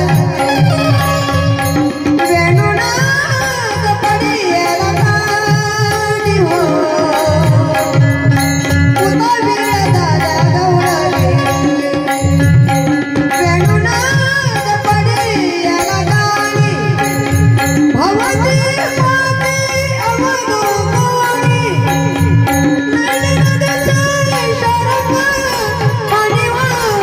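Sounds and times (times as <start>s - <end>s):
tabla rhythm: 0.0s - 27.0s.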